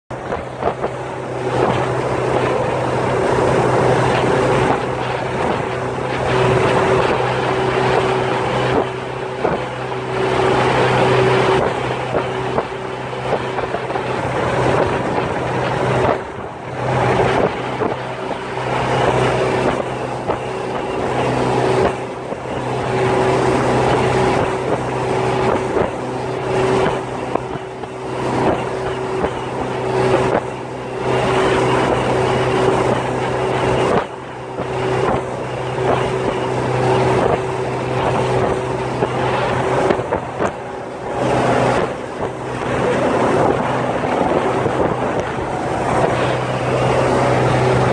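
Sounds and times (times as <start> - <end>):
motorboat engine humming: 0.1 - 47.9
wind buffeting microphone: 0.1 - 47.9.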